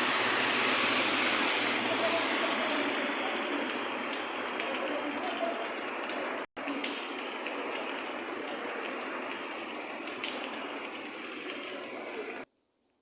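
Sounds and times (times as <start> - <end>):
rain falling: 0.0 - 12.5.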